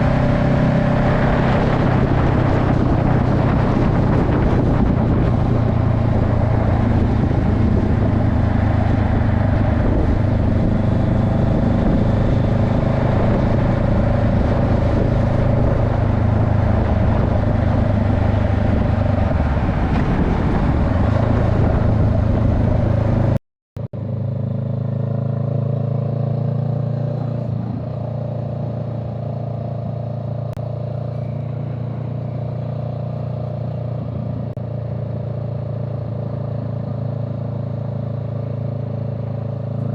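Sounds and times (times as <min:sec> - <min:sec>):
wind and road rush: 0:00.0 - 0:23.4, 0:24.0 - 0:39.9
vehicle engine running: 0:00.0 - 0:39.9.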